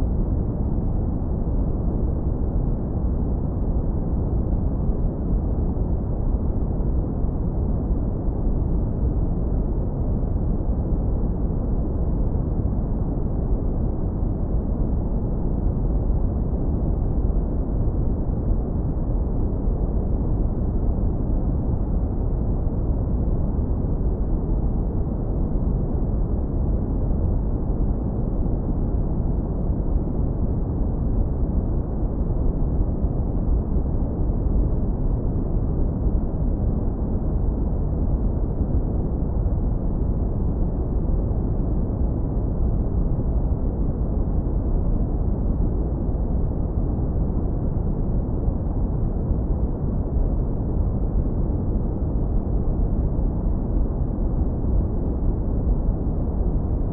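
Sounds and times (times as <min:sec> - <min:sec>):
deep brown noise rumble: 0:00.0 - 0:56.9.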